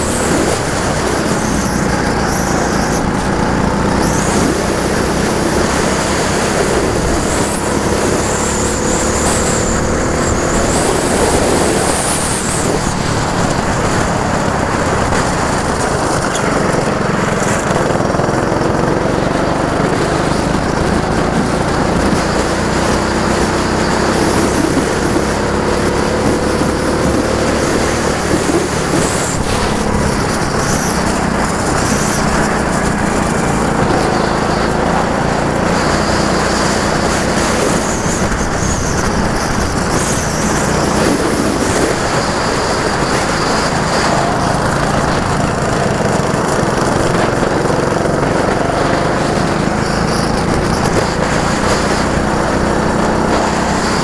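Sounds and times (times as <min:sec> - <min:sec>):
go-kart engine accelerating: 0:00.0 - 0:54.0.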